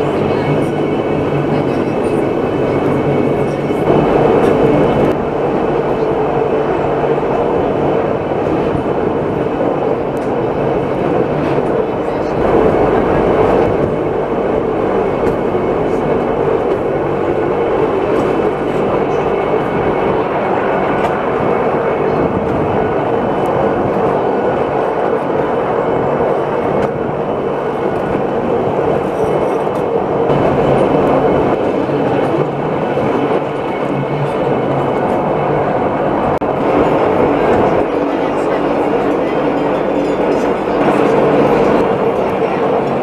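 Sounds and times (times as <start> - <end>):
rack railcar running: 0.0 - 43.0.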